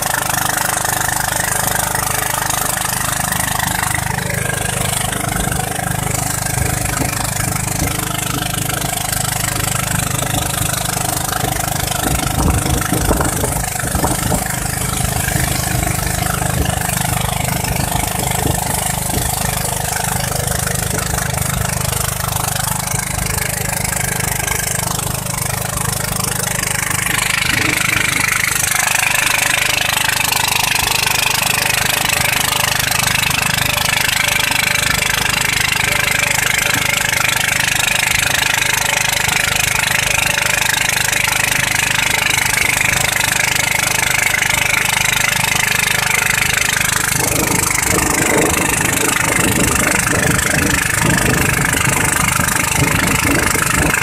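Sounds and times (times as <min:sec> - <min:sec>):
motorboat engine running: 0:00.0 - 0:54.0
water rushing along hull: 0:00.0 - 0:54.0.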